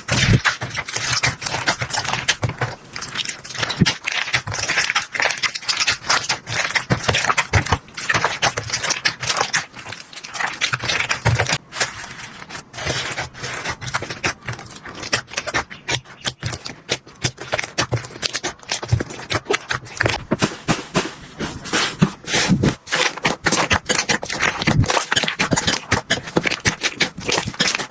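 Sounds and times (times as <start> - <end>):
slime squishing: 0.0 - 27.9.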